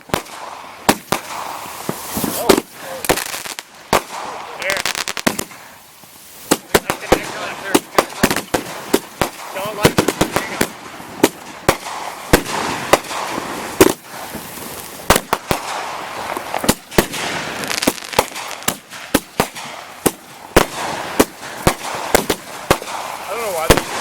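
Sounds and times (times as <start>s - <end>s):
firework bangs: 0.0s - 24.0s
firework hiss: 0.0s - 24.0s.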